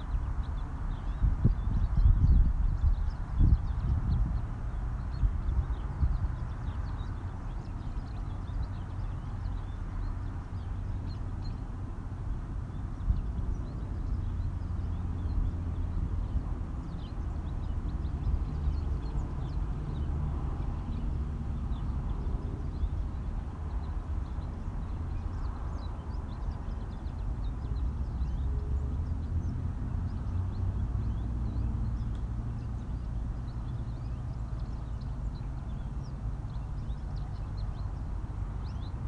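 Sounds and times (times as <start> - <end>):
wind on microphone rumble: 0.0 - 39.0.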